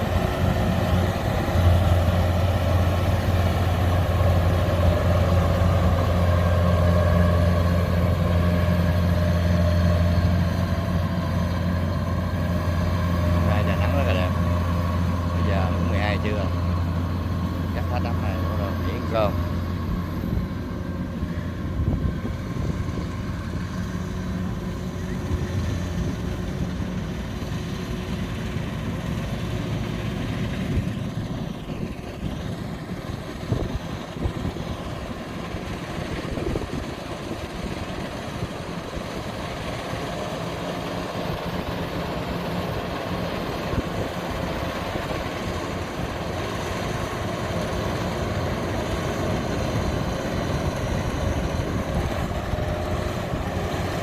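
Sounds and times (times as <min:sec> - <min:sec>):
combine harvester engine droning: 0:00.0 - 0:54.0.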